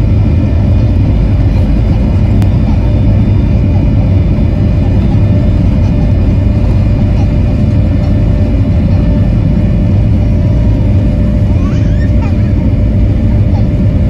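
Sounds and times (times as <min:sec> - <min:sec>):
jet engine whine: 0:00.0 - 0:14.0
jet engines low rumble: 0:00.0 - 0:14.0.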